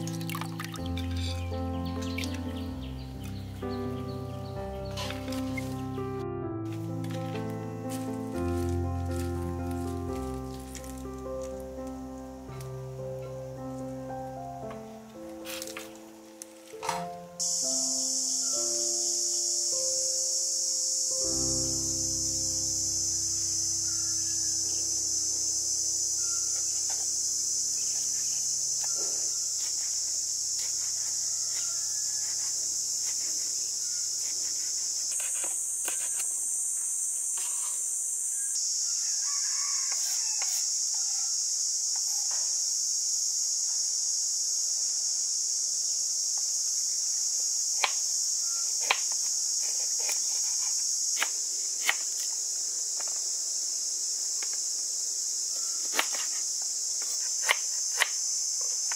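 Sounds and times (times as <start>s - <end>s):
insects buzzing: 0.0s - 58.9s.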